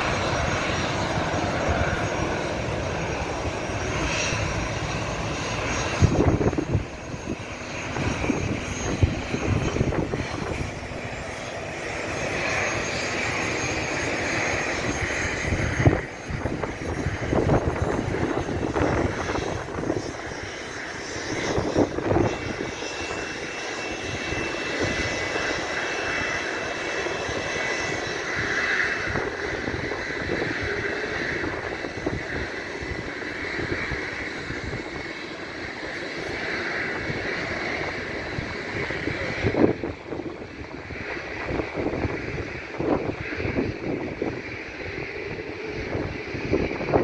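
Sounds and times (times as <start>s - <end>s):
jet engines whining at takeoff: 0.0s - 47.0s
wind gusts on microphone: 0.0s - 47.0s.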